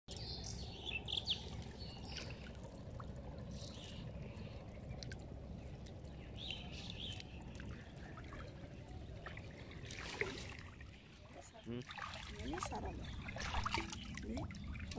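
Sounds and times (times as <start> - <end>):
birds chirping: 0.1 - 14.9
water trickling: 0.1 - 14.9.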